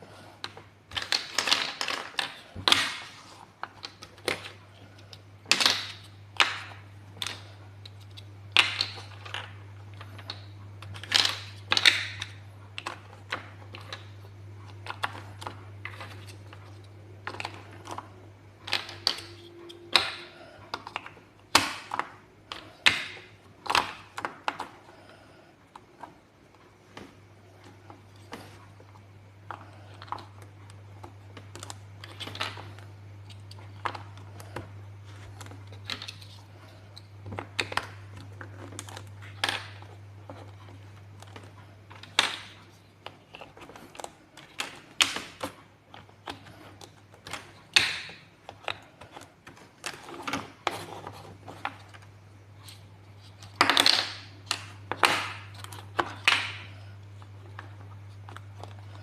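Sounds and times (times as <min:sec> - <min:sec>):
plastic blocks clicking: 0:00.4 - 0:24.9, 0:29.5 - 0:59.0.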